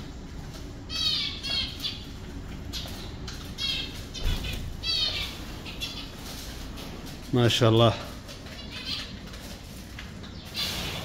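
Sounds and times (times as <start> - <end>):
wings fluttering: 0.0 - 11.0
finches chirping: 0.8 - 7.0, 7.6 - 9.6, 10.2 - 11.0.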